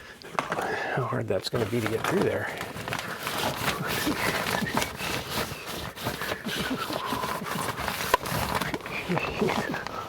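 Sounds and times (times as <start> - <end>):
electrical cable scraping and rustling: 1.6 - 10.0.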